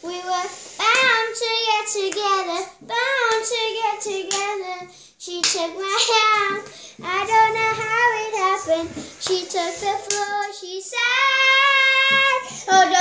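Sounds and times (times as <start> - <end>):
girl singing unaccompanied: 0.0 - 13.0.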